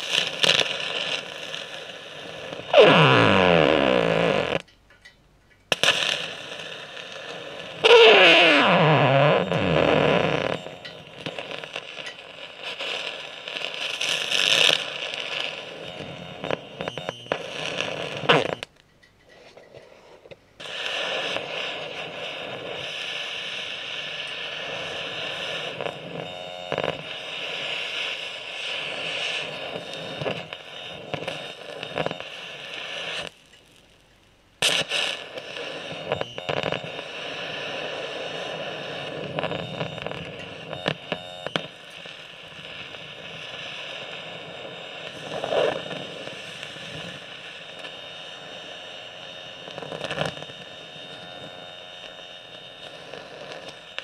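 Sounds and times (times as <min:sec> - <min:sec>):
carbon arc crackling and hissing: 0:00.0 - 0:54.0.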